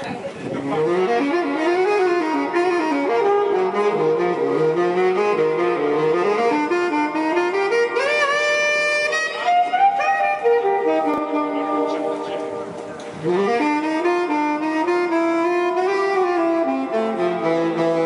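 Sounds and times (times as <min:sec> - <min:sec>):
saxophone melody with accompaniment: 0:00.6 - 0:18.0.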